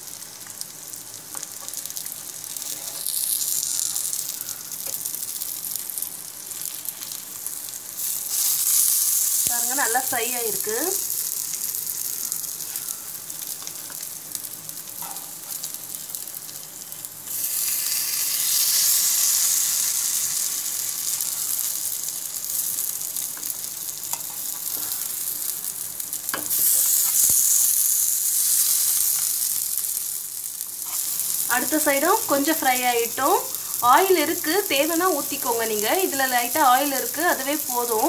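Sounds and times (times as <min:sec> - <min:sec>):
fish sizzling in frying pan: 0:00.0 - 0:38.0.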